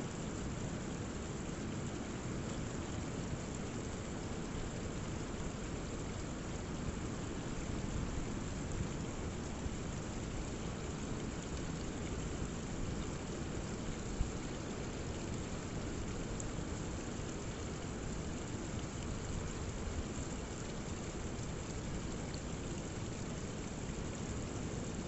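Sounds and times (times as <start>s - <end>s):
water trickling down rock: 0.0s - 25.0s.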